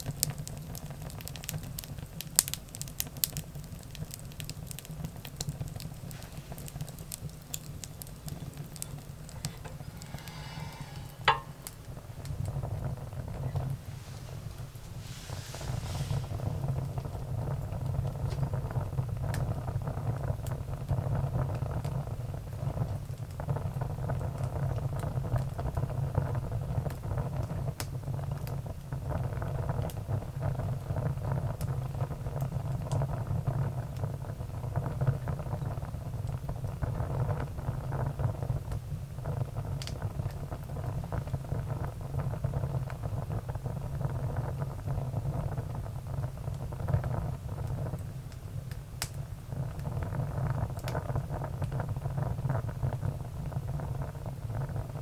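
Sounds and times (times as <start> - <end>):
fire crackles and pops: 0.0 - 55.0
fire rumbling: 0.0 - 55.0.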